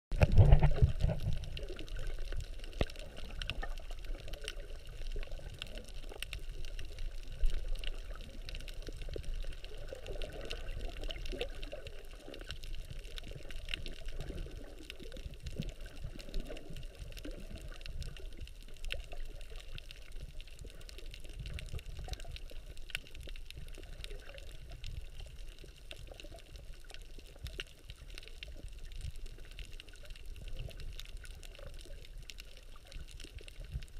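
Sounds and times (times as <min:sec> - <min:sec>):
underwater water sloshing: 0:00.1 - 0:33.9
faint clicks: 0:00.2 - 0:33.9.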